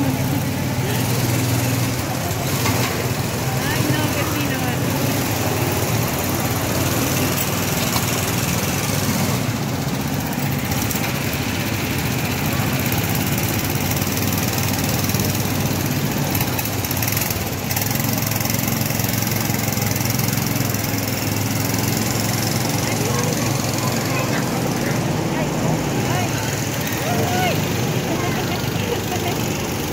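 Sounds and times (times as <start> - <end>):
go-kart engines running: 0.0 - 29.9.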